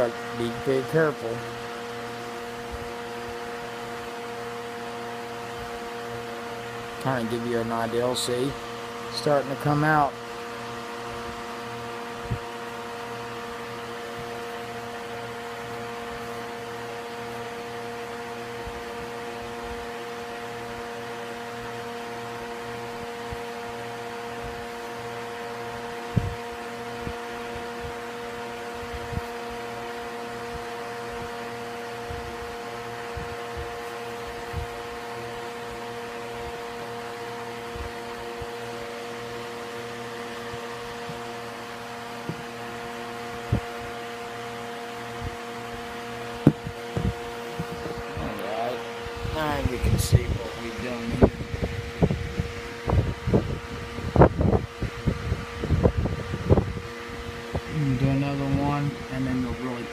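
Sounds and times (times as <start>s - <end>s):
mechanical hum of equipment: 0.0s - 59.9s.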